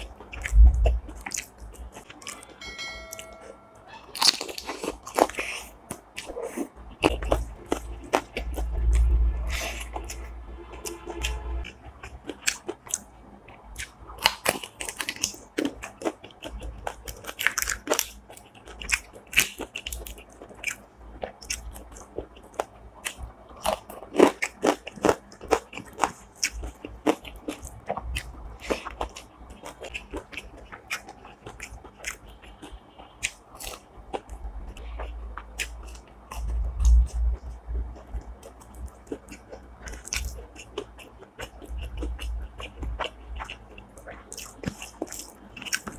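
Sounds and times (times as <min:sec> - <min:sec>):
person chewing crunchy food: 0:00.0 - 0:02.6, 0:04.2 - 0:45.9.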